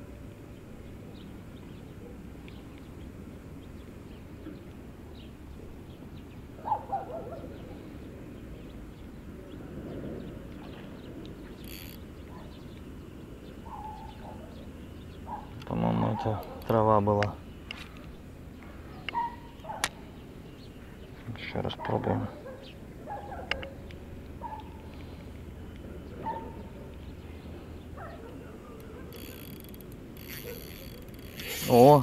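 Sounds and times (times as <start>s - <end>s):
low outdoor background noise: 0.0s - 32.0s
bird calls: 0.8s - 32.0s.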